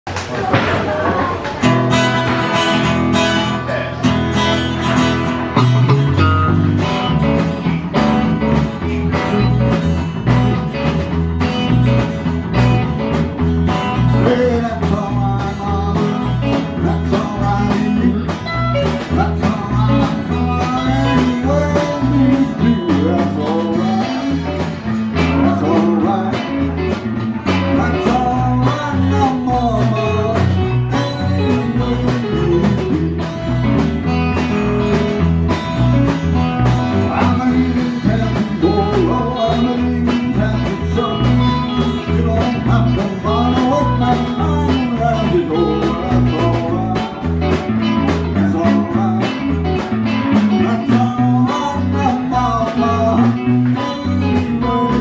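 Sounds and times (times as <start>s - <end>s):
live band playing upbeat song: 0.1s - 55.0s.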